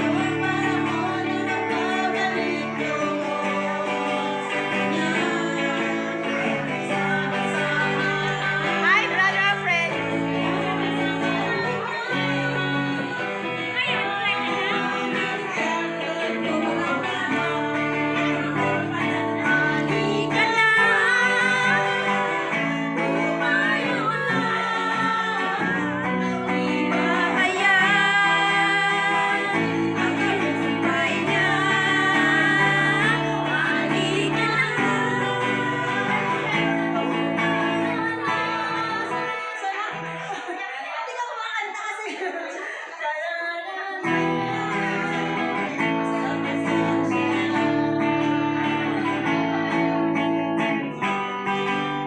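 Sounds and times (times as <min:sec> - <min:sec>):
electric guitar: 0:00.0 - 0:41.0, 0:43.8 - 0:52.0
women singing: 0:00.0 - 0:52.0.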